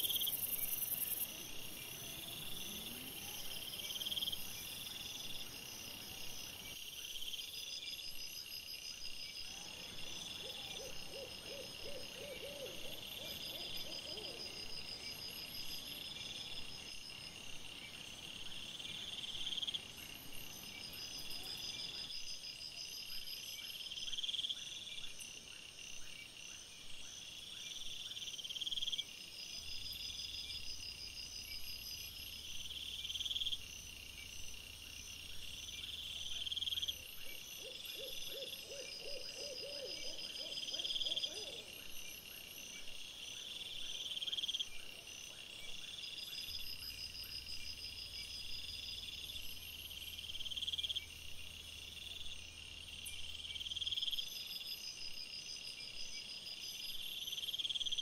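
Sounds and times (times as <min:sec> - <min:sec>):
insects trilling: 0:00.0 - 0:26.4, 0:27.2 - 0:58.0
lower pulsing insect calls: 0:00.0 - 0:58.0.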